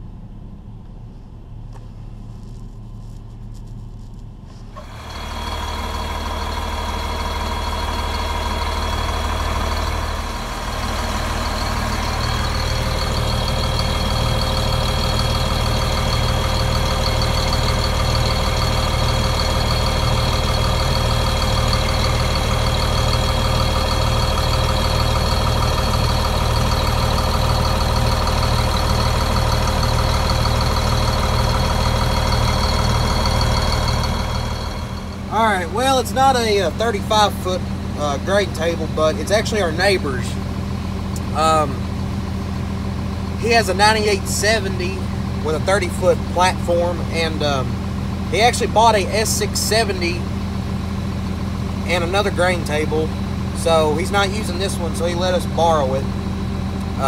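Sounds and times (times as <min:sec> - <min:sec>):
steady whine: 0:00.0 - 0:41.9, 0:43.1 - 0:57.0
vehicle engine droning: 0:00.0 - 0:57.0.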